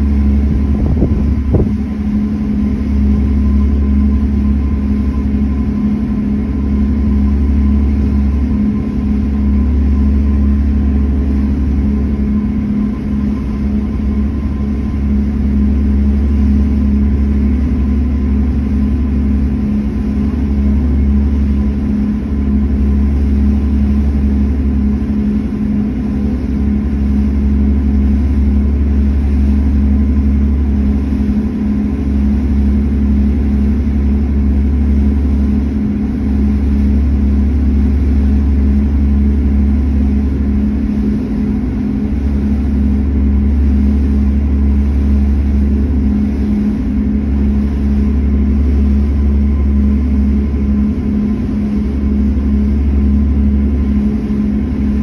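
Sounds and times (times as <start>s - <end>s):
ferry engine rumble: 0.0s - 55.0s
pulsing engine hum: 0.0s - 55.0s.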